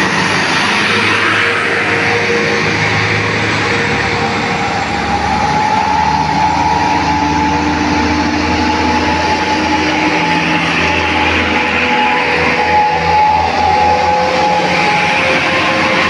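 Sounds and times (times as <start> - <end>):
road noise: 0.0 - 16.0
truck engine rumble: 0.0 - 16.0
whining tone: 0.0 - 16.0.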